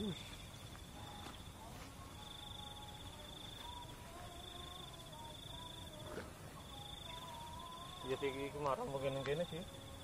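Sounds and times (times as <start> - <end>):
insect trilling: 0.0 - 1.6, 2.2 - 10.0.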